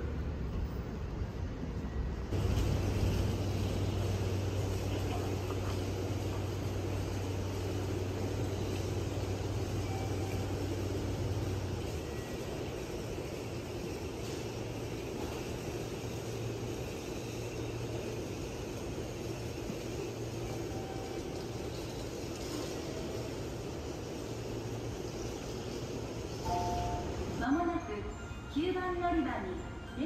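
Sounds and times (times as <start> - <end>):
train humming: 0.0 - 30.0.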